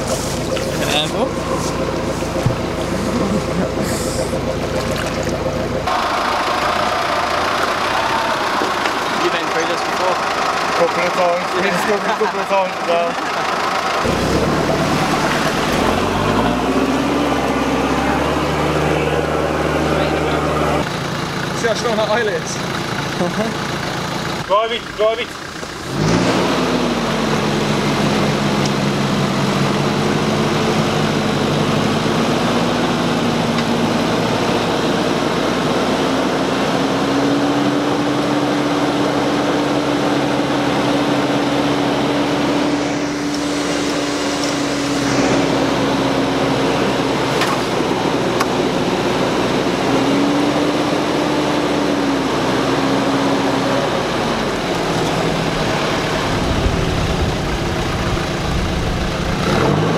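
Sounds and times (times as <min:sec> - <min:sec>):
engine revving under load: 0:00.0 - 0:59.9.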